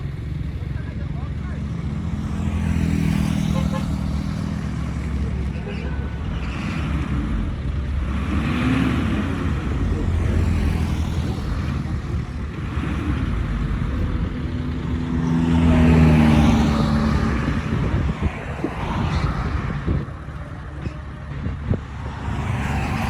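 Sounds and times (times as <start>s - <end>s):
diesel engine revving under load: 0.9s - 23.0s.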